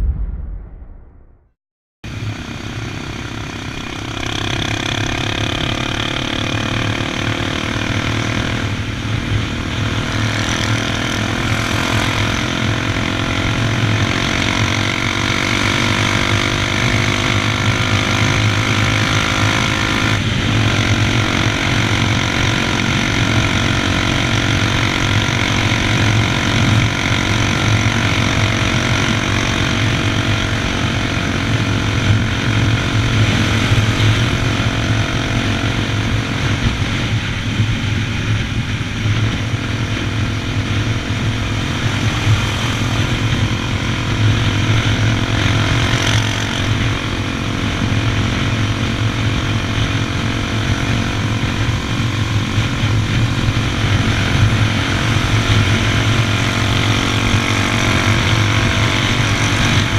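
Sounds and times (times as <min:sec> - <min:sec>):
motorcycle engine running: 0:02.1 - 0:59.9.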